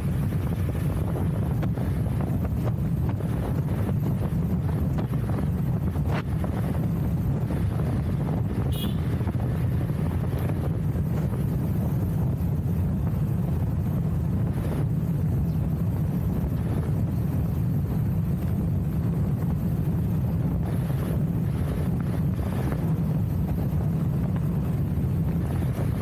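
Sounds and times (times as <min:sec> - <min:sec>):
motorcycle road noise: 0:00.0 - 0:26.0
wind buffeting microphone: 0:00.0 - 0:26.0.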